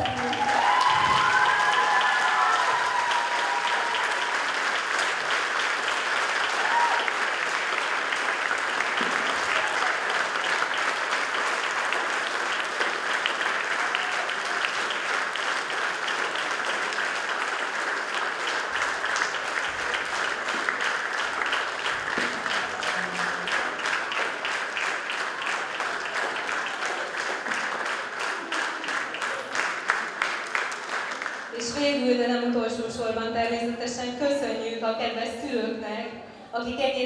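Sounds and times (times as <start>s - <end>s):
audience applauding: 0.0s - 31.6s.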